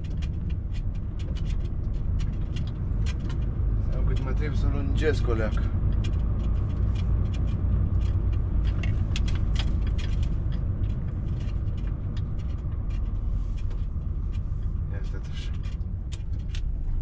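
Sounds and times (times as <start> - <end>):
cab rattles and knocks: 0.0 - 17.0
truck engine and road rumble: 0.0 - 17.0.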